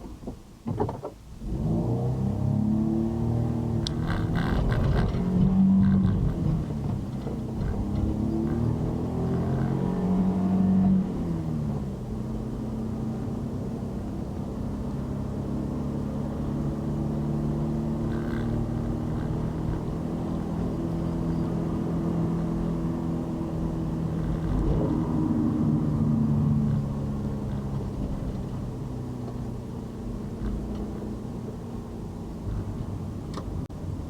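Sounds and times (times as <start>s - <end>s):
road noise: 0.0s - 34.0s
vehicle engine: 1.3s - 34.0s.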